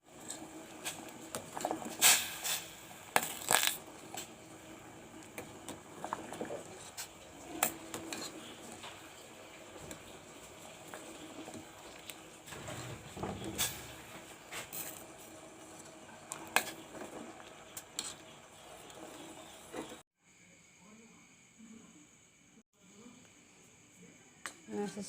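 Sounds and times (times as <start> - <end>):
pot heating with faint hiss: 0.0 - 25.0.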